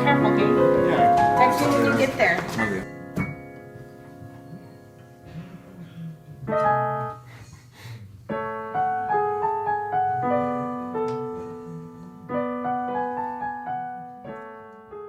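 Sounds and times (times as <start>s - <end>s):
slow solo piano melody: 0.0s - 7.2s, 8.3s - 15.0s.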